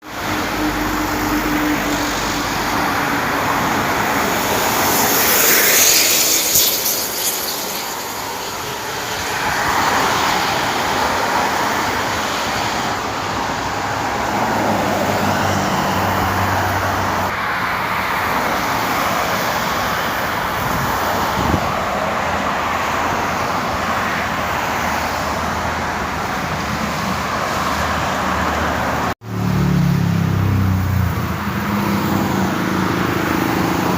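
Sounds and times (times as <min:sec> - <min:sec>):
heavy vehicle engines passing: 0:00.0 - 0:33.9
steady traffic noise: 0:00.0 - 0:33.9.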